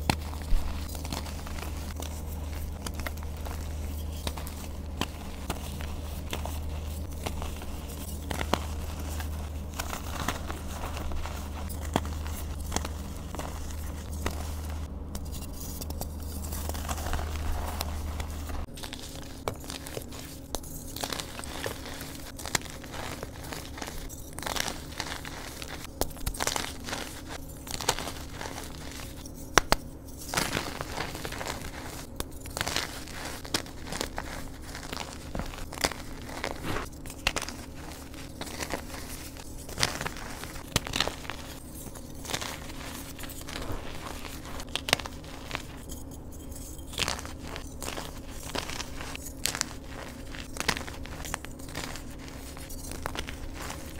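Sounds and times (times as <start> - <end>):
fingers crushing chalk: 0.0 - 53.9
low hum: 0.0 - 53.9.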